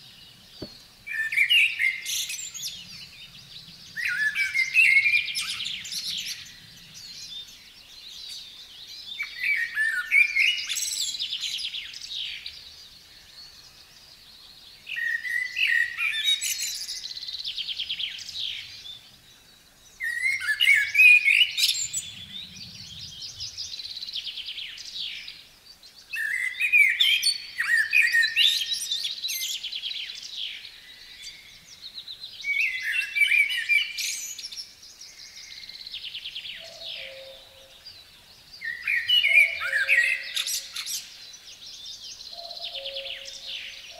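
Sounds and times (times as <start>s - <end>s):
songbird singing with trill: 0.0s - 43.9s.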